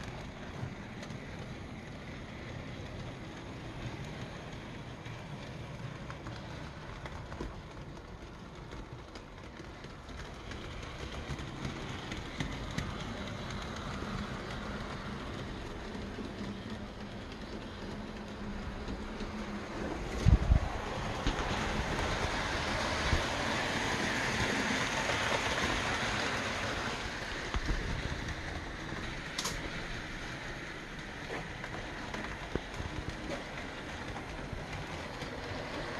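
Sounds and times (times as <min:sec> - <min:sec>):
model train wheels clicking on rails: 0:00.0 - 0:35.9.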